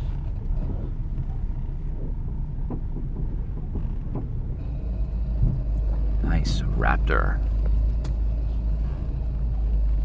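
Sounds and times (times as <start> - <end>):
car engine rumble from inside: 0.0 - 10.0.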